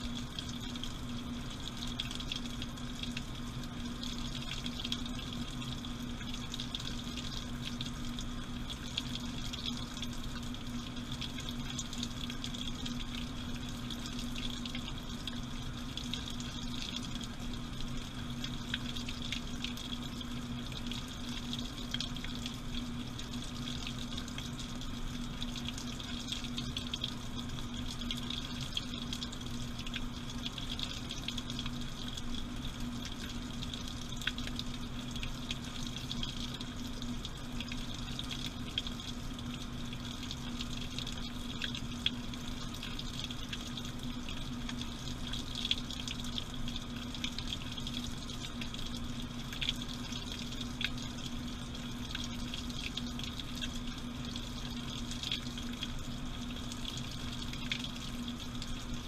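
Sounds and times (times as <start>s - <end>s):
washing machine low hum: 0.0s - 59.0s
water sloshing in washing machine: 0.0s - 59.0s.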